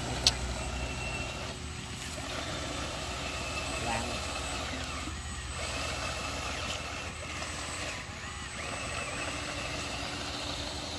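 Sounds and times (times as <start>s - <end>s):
toy bulldozer mechanical drone: 0.0s - 10.9s.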